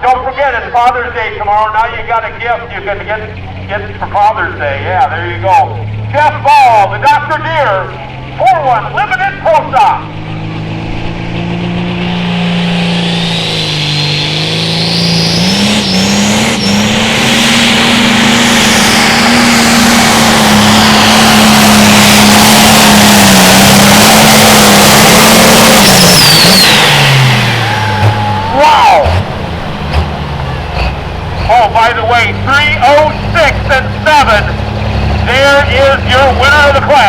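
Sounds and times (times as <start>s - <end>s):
tractor diesel engine at full power: 0.0s - 37.0s.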